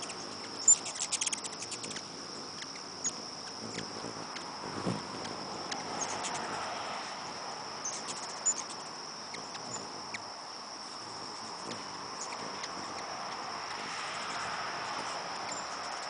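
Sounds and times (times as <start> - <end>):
hummingbird chips: 0.0 - 6.6, 7.8 - 16.0
insect chorus: 0.0 - 16.0.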